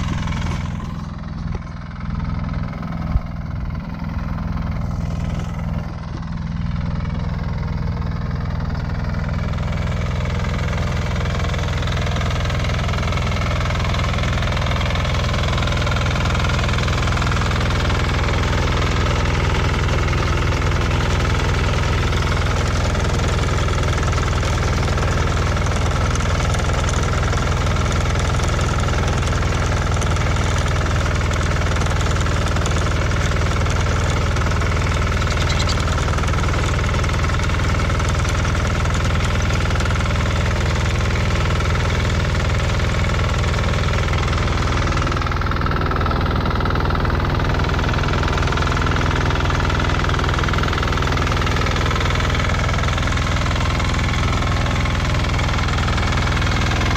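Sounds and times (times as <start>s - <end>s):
walk-behind tractor engine running: 0.0s - 56.9s.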